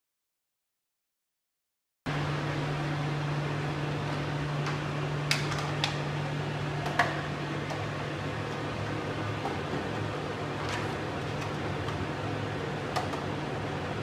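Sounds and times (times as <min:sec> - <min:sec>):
sealing machine electrical hum: 0:02.1 - 0:14.0.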